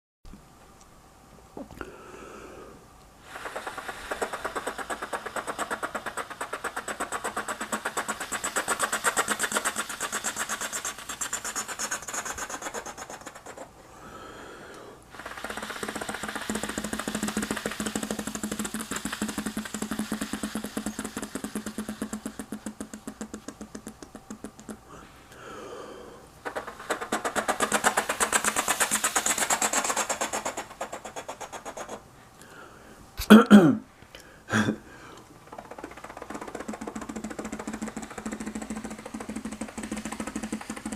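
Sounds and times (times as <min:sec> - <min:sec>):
person imitating helicopter: 0:02.6 - 0:14.3, 0:15.1 - 0:32.0, 0:34.5 - 0:40.9.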